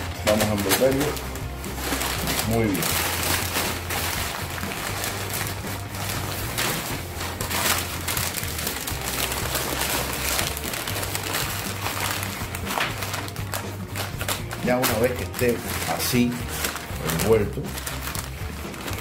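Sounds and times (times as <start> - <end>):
background music with bass line: 0.0 - 19.0
paper crinkling and rustling: 0.0 - 19.0.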